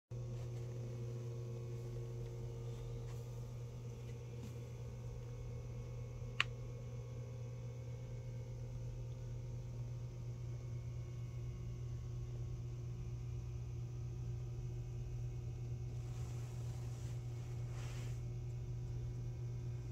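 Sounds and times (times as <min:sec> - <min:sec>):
low hum: 0:00.2 - 0:19.9.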